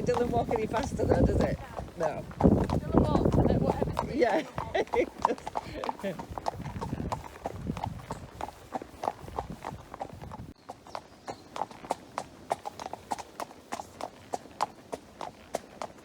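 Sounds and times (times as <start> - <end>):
hooves clip-clopping on road: 0.0 - 16.0.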